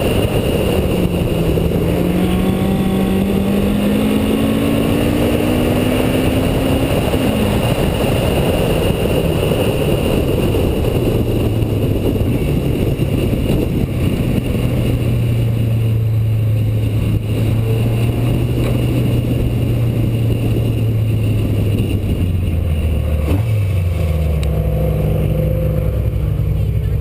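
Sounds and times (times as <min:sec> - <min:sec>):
rally car engine running hard: 0:00.0 - 0:27.0
road and wind noise: 0:00.0 - 0:27.0.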